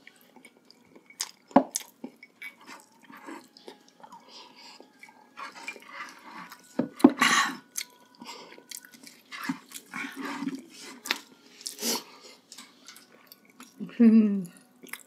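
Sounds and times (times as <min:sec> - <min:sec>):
chewing and lip-smacking: 0:00.0 - 0:13.8, 0:14.4 - 0:15.0.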